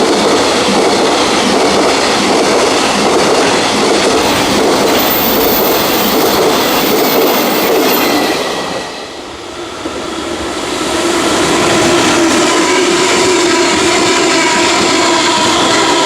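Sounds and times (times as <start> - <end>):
freight train passing: 0.0 - 16.0.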